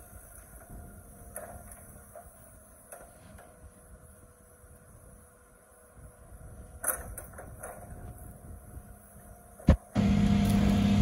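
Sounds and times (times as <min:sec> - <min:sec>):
excavator engine and hydraulics: 0:00.0 - 0:11.0
low hum: 0:00.0 - 0:11.0.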